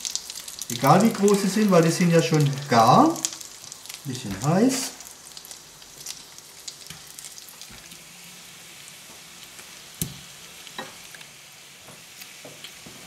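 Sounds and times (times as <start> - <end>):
butter sizzling in a frying pan: 0.0 - 13.0.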